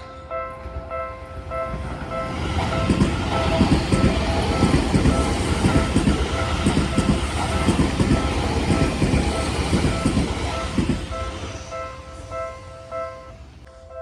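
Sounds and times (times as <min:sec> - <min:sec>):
train wheels knocking on rail joints: 0:00.6 - 0:13.3.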